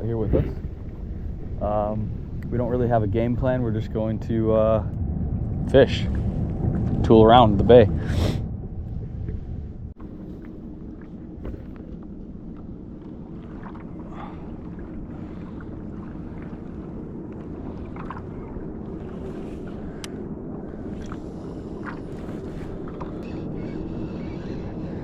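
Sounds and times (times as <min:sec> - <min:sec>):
water noise: 0:00.0 - 0:25.0
wind buffeting microphone: 0:00.0 - 0:25.0.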